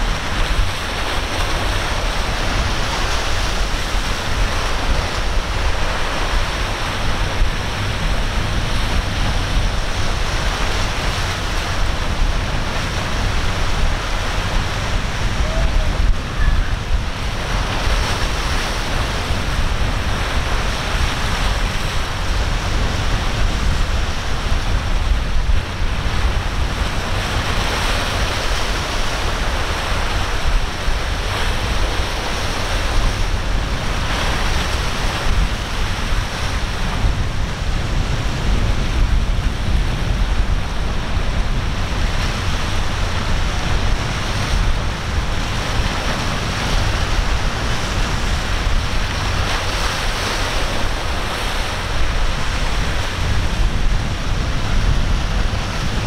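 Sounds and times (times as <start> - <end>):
ocean waves breaking: 0.0 - 56.0
wind on microphone: 0.0 - 56.0.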